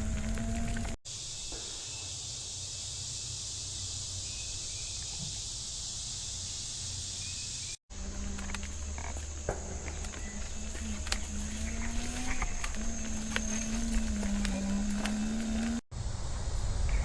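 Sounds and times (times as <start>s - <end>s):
high-pitched insect chorus: 0.0s - 15.8s.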